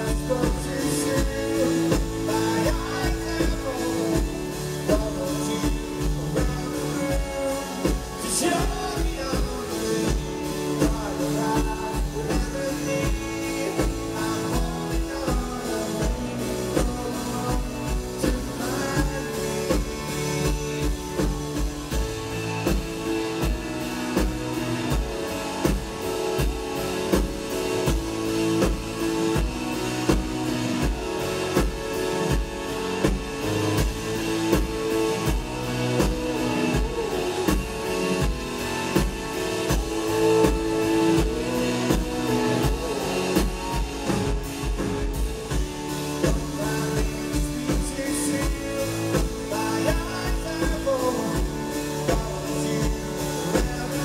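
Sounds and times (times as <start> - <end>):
drum kit steady beat: 0.0 - 54.0
strummed guitars: 0.0 - 54.0.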